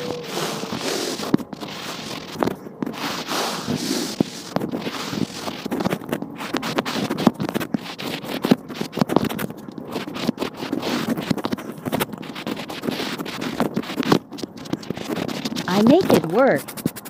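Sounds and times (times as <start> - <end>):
tool scraping crumbly material: 0.0 - 17.0.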